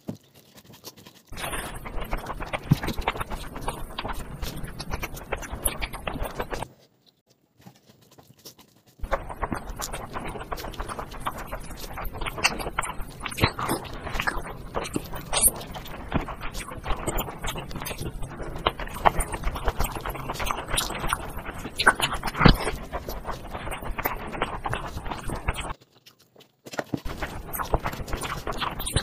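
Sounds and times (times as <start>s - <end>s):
chewing and lip-smacking: 0.0s - 29.0s
fingers squelching rice and curry: 0.2s - 7.0s, 7.6s - 29.0s.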